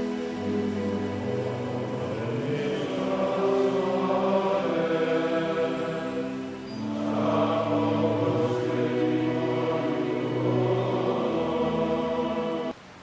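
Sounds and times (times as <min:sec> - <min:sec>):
church choir singing: 0:00.0 - 0:12.8.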